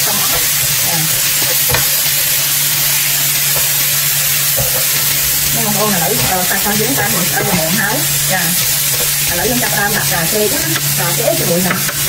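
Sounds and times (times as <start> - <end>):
food sizzling in a frying pan: 0.0 - 12.0
spatula scraping a pan: 0.1 - 12.0.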